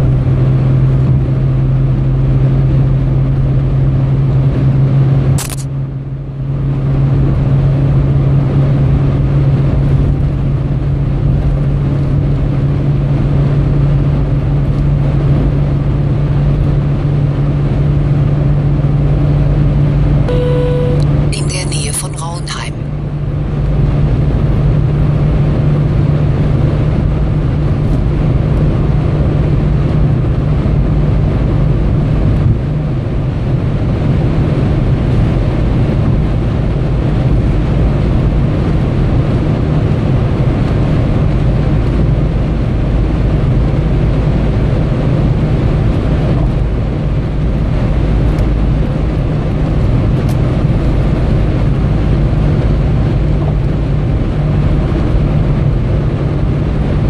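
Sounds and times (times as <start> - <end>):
car cabin low hum: 0.0 - 57.0.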